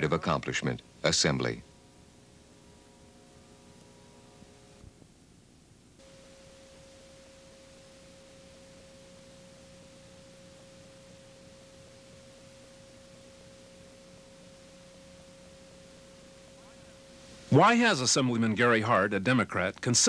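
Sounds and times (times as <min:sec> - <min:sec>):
tape hiss: 0:00.0 - 0:20.0.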